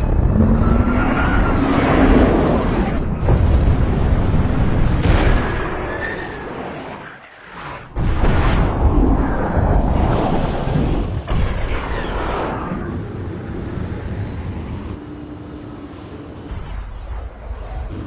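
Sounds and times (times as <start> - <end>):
fighter jet roar: 0.0 - 18.0.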